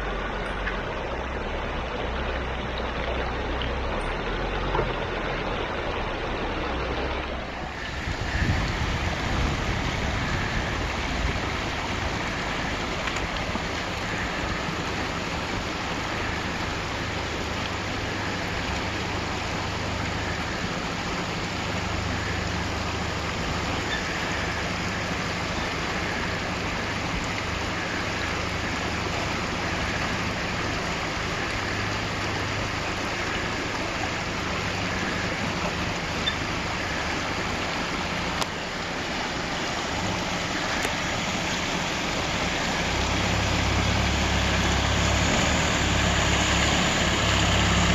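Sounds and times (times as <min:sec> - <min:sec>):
diesel engine humming: 0:00.0 - 0:47.9
water rushing over rocks: 0:00.0 - 0:47.9.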